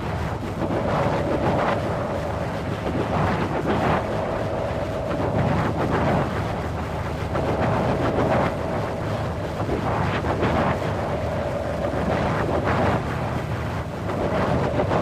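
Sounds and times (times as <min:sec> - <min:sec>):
low rumble: 0:00.0 - 0:15.0
strong gusty wind: 0:00.0 - 0:15.0.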